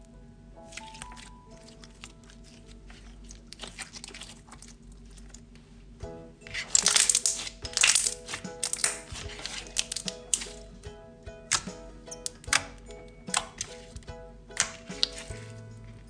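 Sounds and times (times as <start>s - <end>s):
background music: 0.0s - 3.2s, 6.0s - 16.0s
slime crackling and popping: 0.7s - 5.6s, 6.5s - 10.7s, 11.5s - 15.5s.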